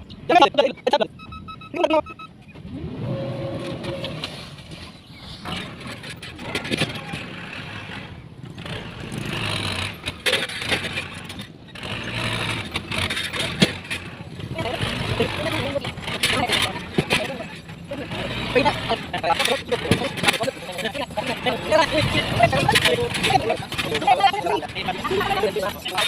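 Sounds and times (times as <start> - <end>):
diesel construction machinery running: 0.0 - 26.0.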